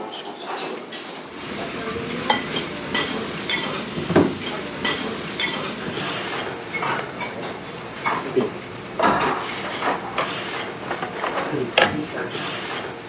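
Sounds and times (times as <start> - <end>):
cutlery clinking against dishes: 0.4 - 13.0.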